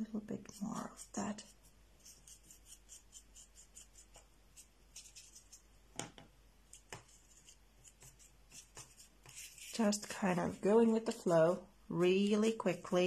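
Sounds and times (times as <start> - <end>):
paintbrush scratching on canvas: 0.1 - 5.7, 6.7 - 11.6.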